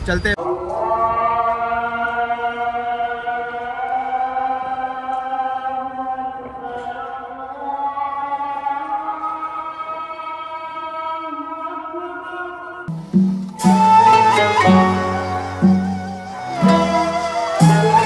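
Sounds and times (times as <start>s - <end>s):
voices chanting long held notes: 0.4s - 12.9s, 13.5s - 18.0s.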